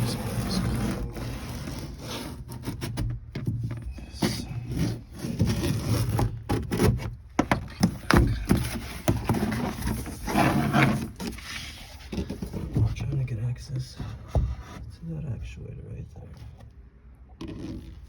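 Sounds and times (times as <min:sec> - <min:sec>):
plastic panel scraping and cracking: 0:00.0 - 0:14.6, 0:17.3 - 0:18.0.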